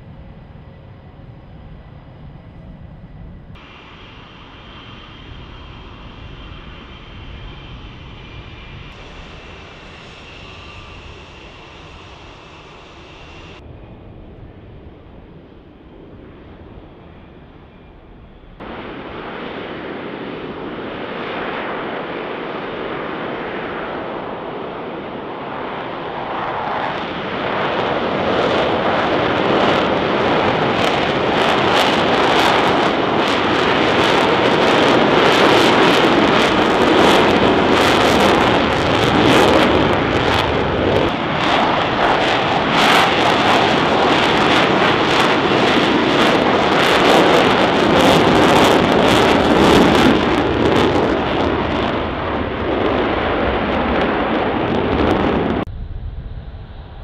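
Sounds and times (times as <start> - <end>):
jet engines accelerating: 0.0 - 57.0.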